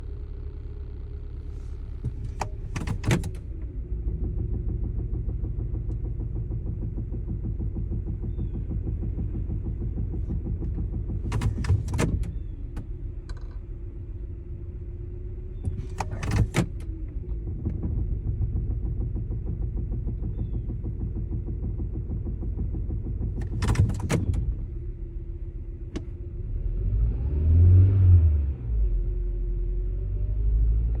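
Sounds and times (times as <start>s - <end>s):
car engine idling: 0.0s - 26.8s
low wavering rumble: 0.0s - 31.0s.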